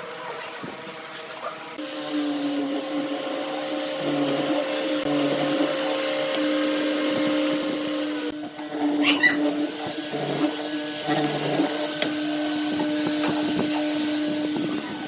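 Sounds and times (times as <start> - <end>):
power tool motor whirring: 1.8 - 15.0.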